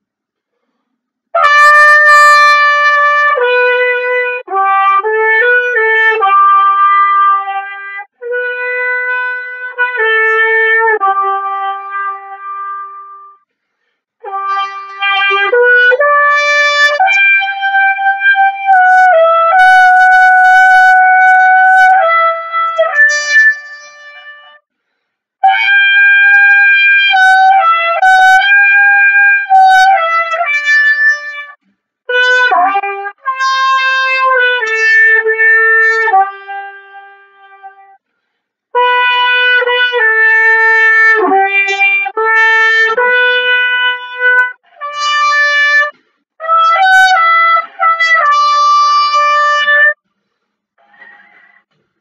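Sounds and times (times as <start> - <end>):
solo trumpet playing: 1.4 - 13.4, 14.2 - 24.6, 25.4 - 38.0, 38.8 - 50.0.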